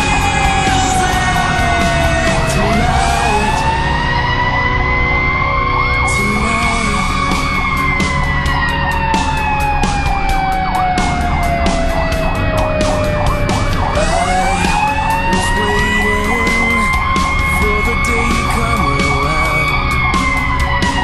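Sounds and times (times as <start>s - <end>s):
siren winding up and down: 0.0s - 21.0s
siren yelping rapidly: 0.0s - 21.0s
truck engine rumbling: 0.0s - 21.0s.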